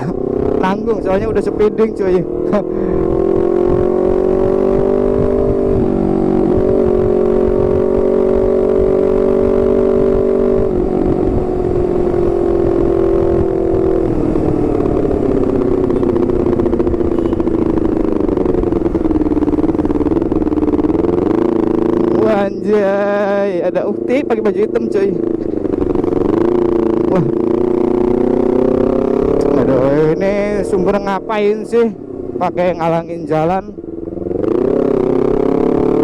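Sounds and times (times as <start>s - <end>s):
sport bike engine revving: 0.0s - 36.0s.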